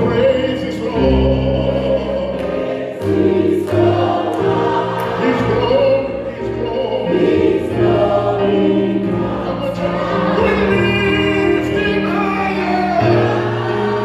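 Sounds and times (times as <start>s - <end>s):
group singing worship song: 0.0s - 14.0s
keyboard: 0.0s - 14.0s.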